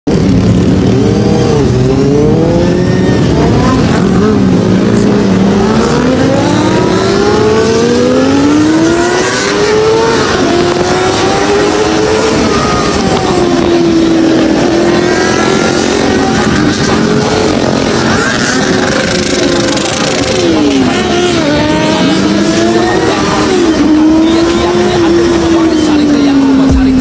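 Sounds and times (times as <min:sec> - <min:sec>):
motorcycle engine accelerating: 0:00.1 - 0:27.0.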